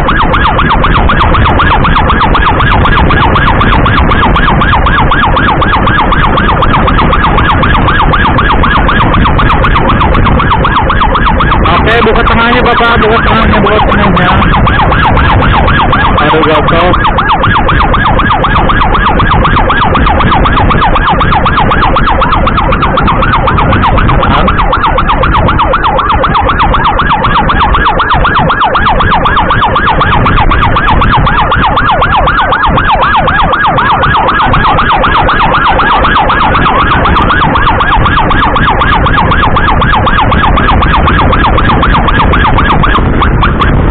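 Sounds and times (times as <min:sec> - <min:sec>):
siren yelping: 0:00.0 - 0:43.9.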